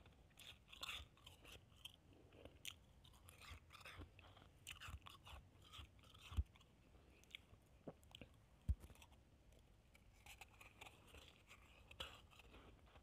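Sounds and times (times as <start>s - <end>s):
chewing crunchy shaved ice: 0.0s - 13.0s.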